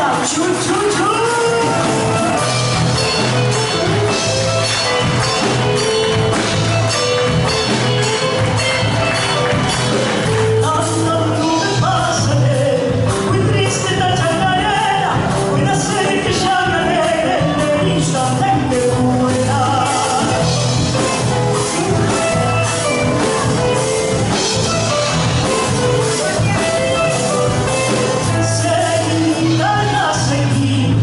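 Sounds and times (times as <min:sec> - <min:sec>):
person singing: 0:00.0 - 0:06.0, 0:10.2 - 0:31.0
percussion beat: 0:00.0 - 0:12.2, 0:13.0 - 0:30.5
steady bass: 0:00.0 - 0:31.0.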